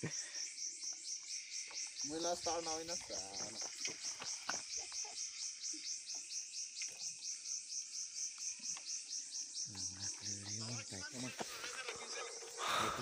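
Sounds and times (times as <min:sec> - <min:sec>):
insects chirping in pulses: 0:00.0 - 0:13.0.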